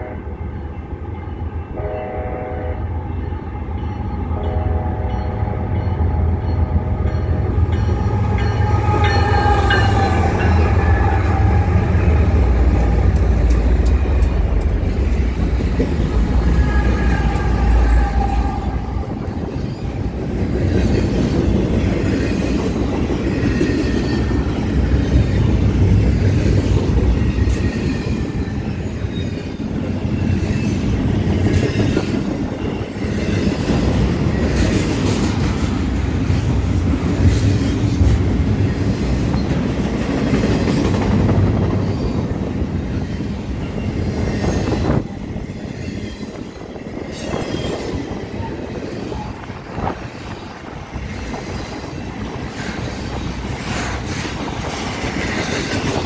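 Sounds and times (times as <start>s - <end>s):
diesel locomotives rumbling: 0.0s - 56.0s
freight cars rumbling with wheel clatter: 6.3s - 56.0s.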